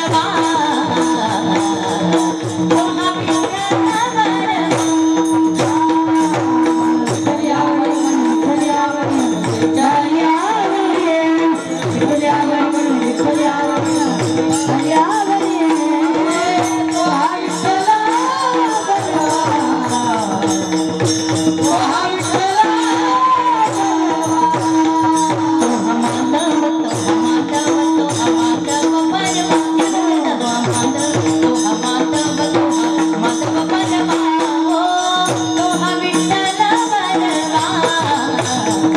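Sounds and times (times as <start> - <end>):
shaken percussion: 0.0 - 38.9.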